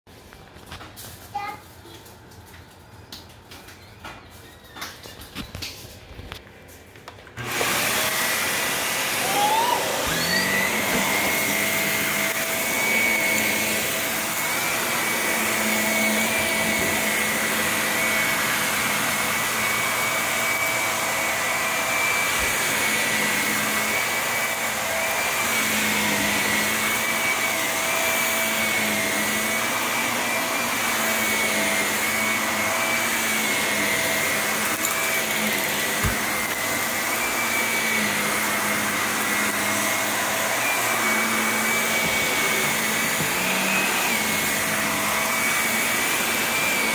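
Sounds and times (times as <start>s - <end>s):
vacuum cleaner motor whine: 7.0s - 46.9s.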